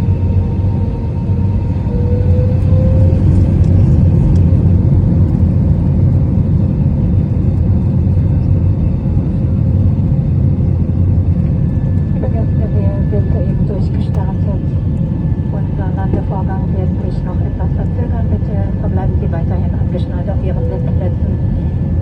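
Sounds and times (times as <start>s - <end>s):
aircraft cabin engine rumble: 0.0s - 22.0s.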